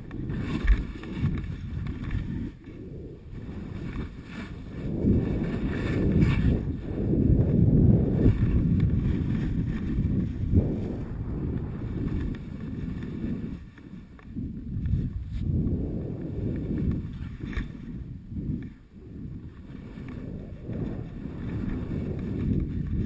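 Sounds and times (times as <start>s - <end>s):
wind buffeting microphone: 0.0s - 23.0s
sliding scrape over snow: 0.1s - 23.0s.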